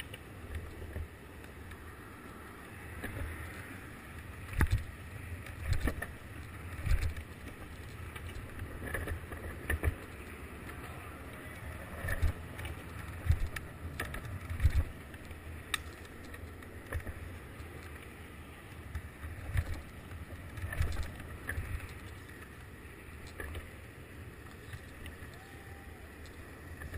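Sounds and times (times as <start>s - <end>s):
skateboard wheels rumbling on asphalt: 0.0s - 26.9s.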